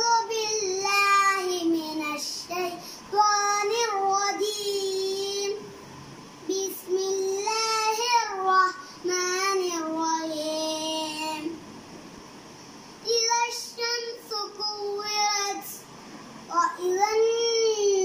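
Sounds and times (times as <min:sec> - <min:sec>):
boy chanting recitation: 0:00.0 - 0:05.8, 0:06.4 - 0:11.6, 0:13.0 - 0:15.9, 0:16.5 - 0:18.0.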